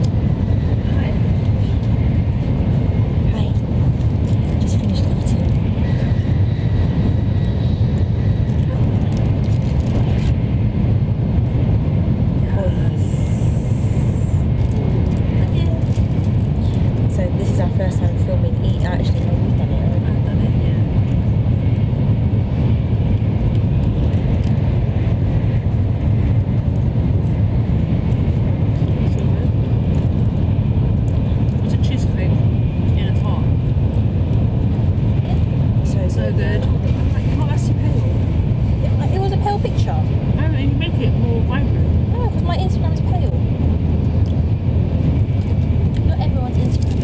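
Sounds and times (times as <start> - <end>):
train rumble inside cabin: 0.0 - 47.0.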